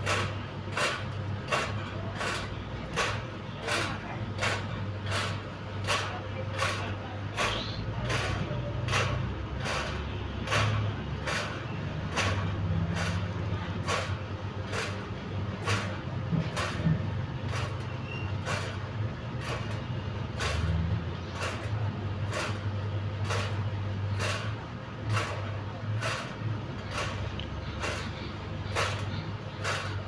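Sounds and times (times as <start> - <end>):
fan swishing scrape: 0.0 - 30.0
steady low hum: 0.0 - 30.0.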